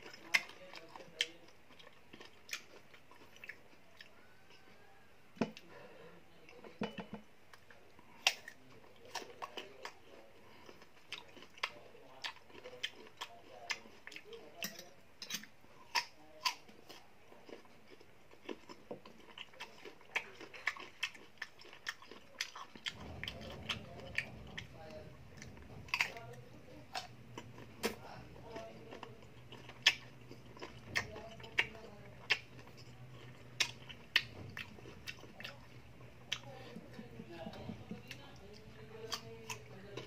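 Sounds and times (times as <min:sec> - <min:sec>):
crunchy biting and chewing: 0:00.0 - 0:04.9, 0:08.1 - 0:40.0.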